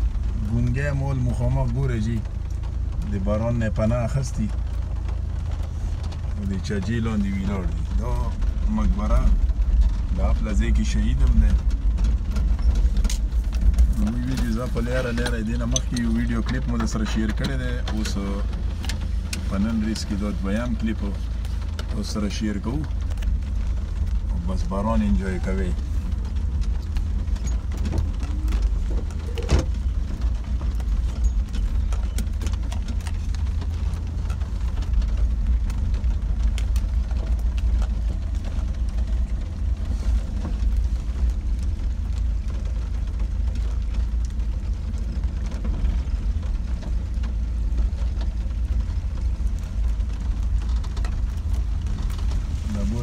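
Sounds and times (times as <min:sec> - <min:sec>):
engine and road rumble: 0:00.0 - 0:53.0
raindrops ticking on windshield: 0:00.0 - 0:53.0.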